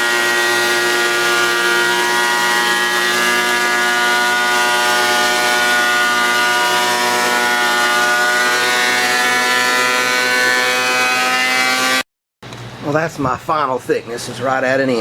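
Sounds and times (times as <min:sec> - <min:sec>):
thickness planer cutting board: 0:00.0 - 0:12.0.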